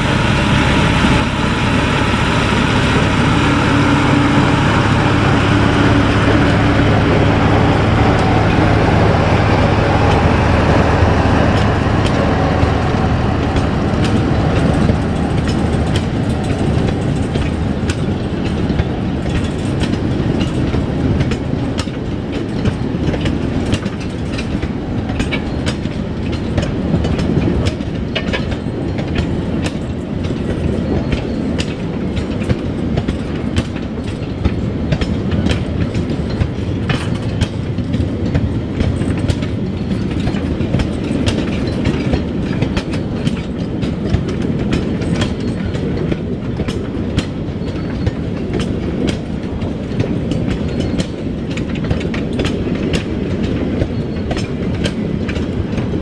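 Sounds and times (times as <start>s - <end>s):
train rumble: 0.0s - 56.0s
wheels clacking over rail joints: 0.0s - 56.0s.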